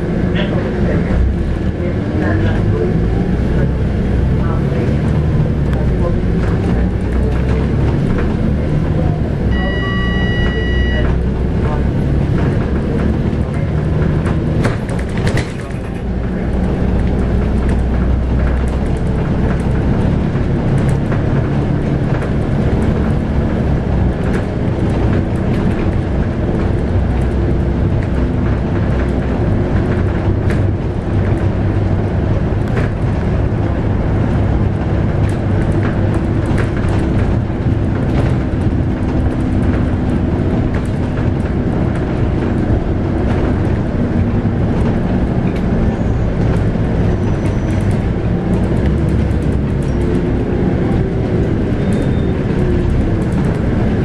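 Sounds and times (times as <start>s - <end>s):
bus engine drone: 0.0s - 54.0s
road noise: 0.0s - 54.0s.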